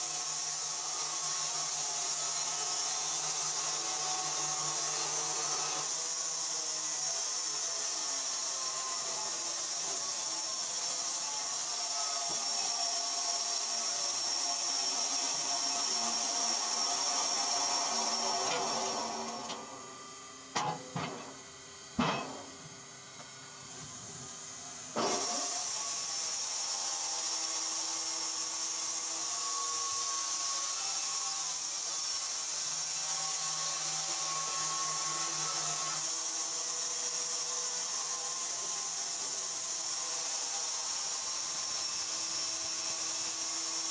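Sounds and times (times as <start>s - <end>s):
band saw cutting log: 0.0s - 20.0s, 25.0s - 43.9s.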